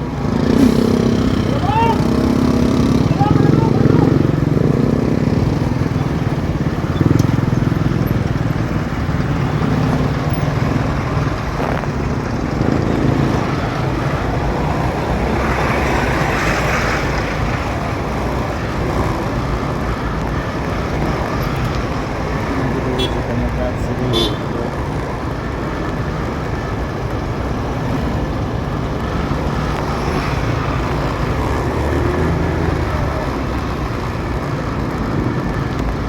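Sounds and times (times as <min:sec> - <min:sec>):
motorcycle running: 0:00.0 - 0:36.0
road noise: 0:00.0 - 0:36.0.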